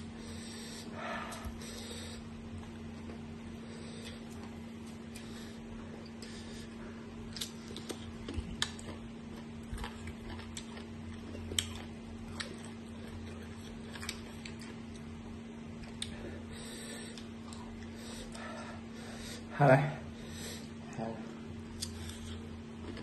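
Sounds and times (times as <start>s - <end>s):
steady low hum: 0.0s - 23.0s
people chewing crisp fruit: 0.3s - 19.5s, 20.2s - 23.0s.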